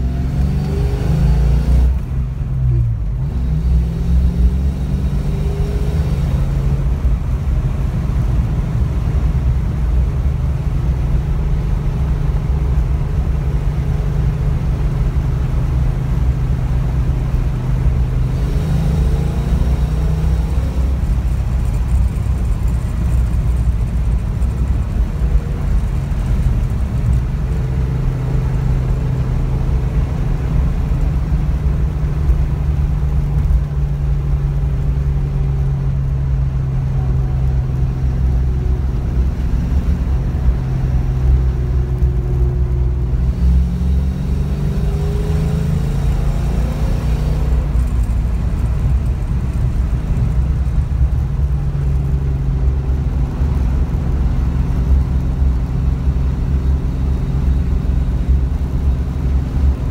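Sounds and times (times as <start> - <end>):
car engine drone from inside: 0.0 - 59.9
road noise: 0.0 - 59.9.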